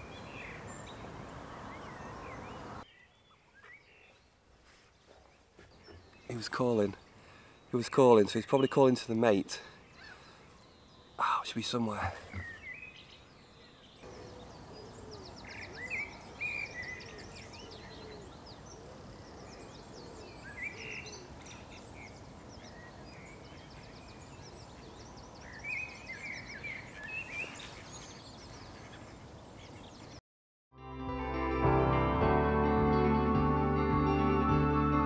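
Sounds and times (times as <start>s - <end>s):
birds chirping and trilling: 0.0s - 30.2s.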